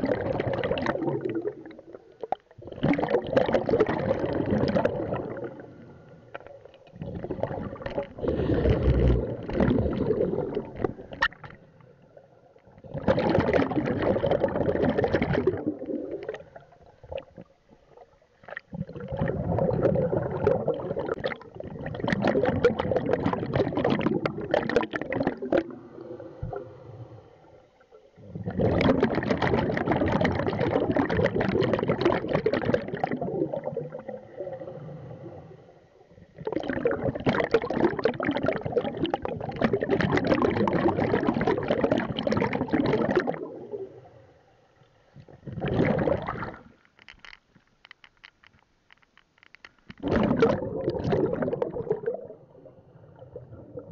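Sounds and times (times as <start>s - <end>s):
diver exhaling bubbles: 0.0s - 2.0s, 2.6s - 11.6s, 12.7s - 17.5s, 18.4s - 27.2s, 28.2s - 44.2s, 45.2s - 46.8s, 50.0s - 53.9s.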